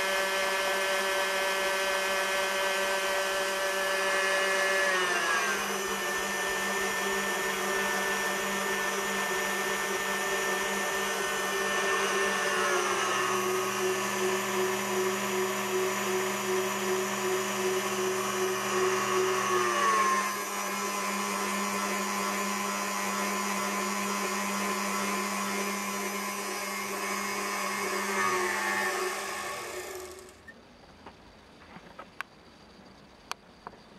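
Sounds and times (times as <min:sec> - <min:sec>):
stand mixer motor whining: 0:00.0 - 0:30.5.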